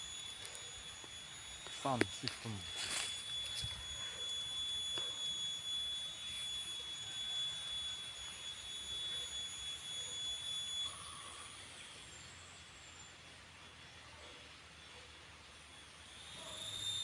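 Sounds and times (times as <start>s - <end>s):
cicada whining call: 0.0s - 17.0s.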